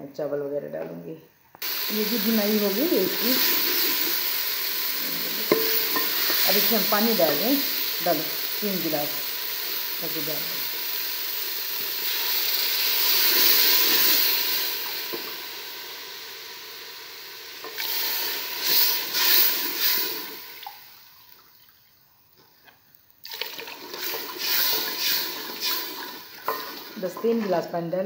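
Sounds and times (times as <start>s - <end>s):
water poured into pot: 1.6s - 21.5s, 23.2s - 27.5s
vegetables sizzling in hot oil: 1.6s - 21.6s, 23.0s - 27.9s.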